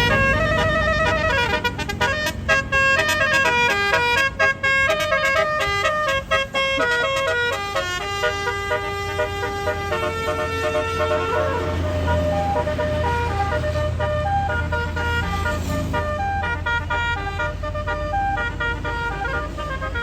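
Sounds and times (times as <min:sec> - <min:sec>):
multi-tone bus horn melody: 0:00.0 - 0:20.0.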